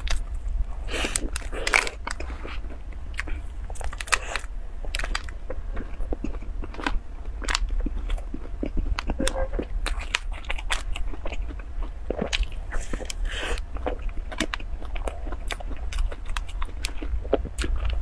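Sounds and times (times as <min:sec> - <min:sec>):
person chewing crunchy pastry: 0:00.0 - 0:18.0.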